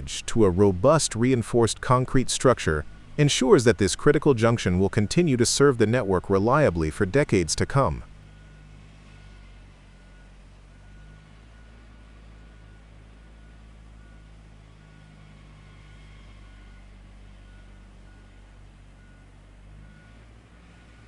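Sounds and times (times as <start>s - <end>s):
heavy machinery engine hum: 0.0s - 21.0s.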